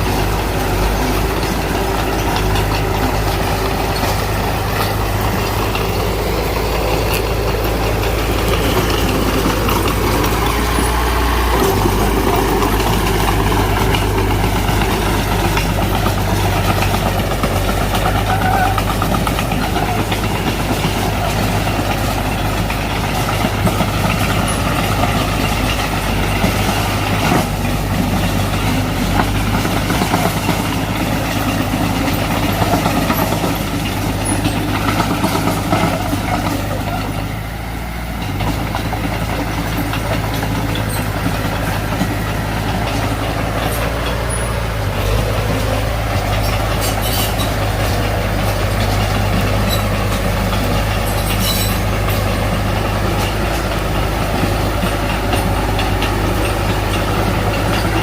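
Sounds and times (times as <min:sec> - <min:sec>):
bulldozer engine drone: 0:00.0 - 0:58.0.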